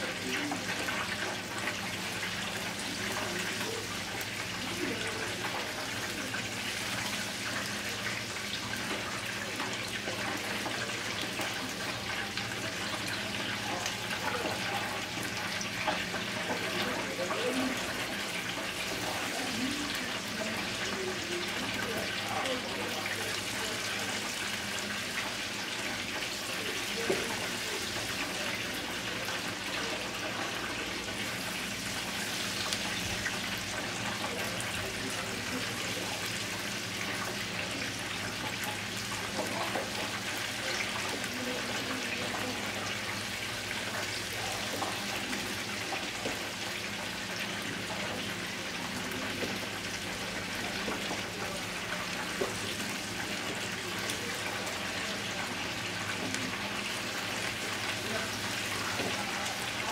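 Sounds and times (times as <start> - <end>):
deep-frying sizzle: 0.0 - 59.9.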